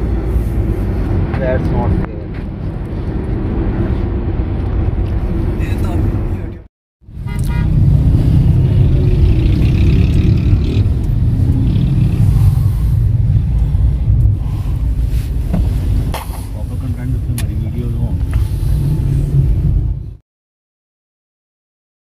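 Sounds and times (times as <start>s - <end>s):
car engine and road rumble: 0.0s - 20.2s.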